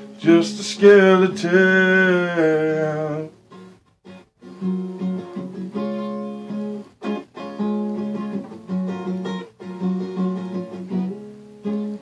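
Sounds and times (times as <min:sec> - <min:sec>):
acoustic guitar chords: 0:00.0 - 0:12.0.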